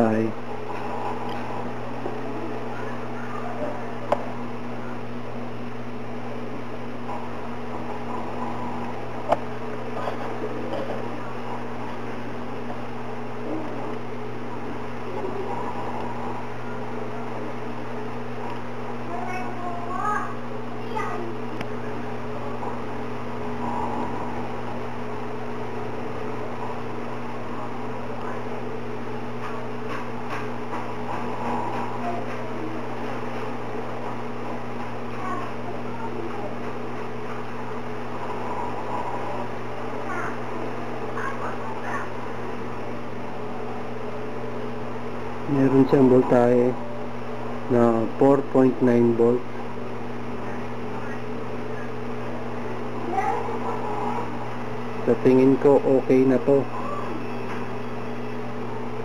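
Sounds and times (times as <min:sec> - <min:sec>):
electrical motor hum: 0:00.0 - 0:59.0.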